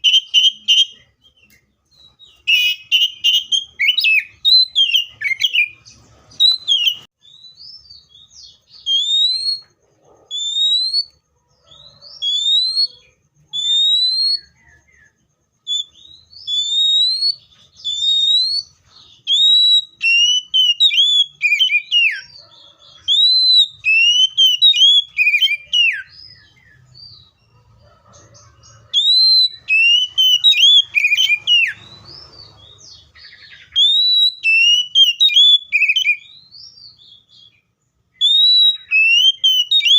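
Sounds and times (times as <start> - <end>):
bird singing whistled phrases: 0.0 - 27.3, 28.8 - 39.9.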